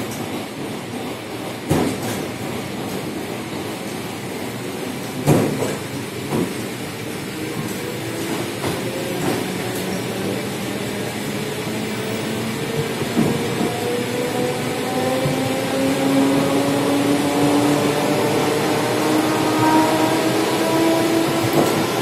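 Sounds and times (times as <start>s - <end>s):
train wheel rumble: 0.0s - 22.0s.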